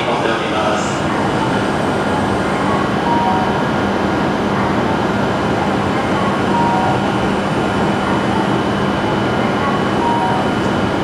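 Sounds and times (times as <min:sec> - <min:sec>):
train equipment hum and fan noise: 0:00.0 - 0:11.0.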